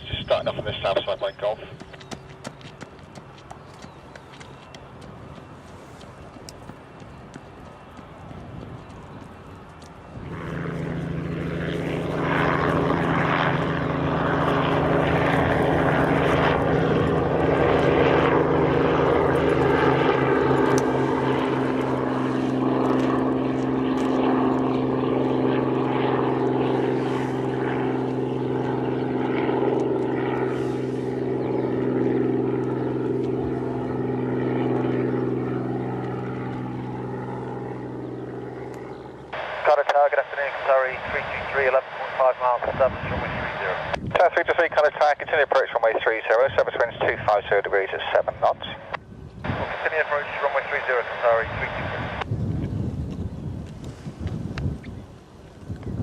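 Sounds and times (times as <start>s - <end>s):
propeller aircraft engine: 0.0s - 56.0s.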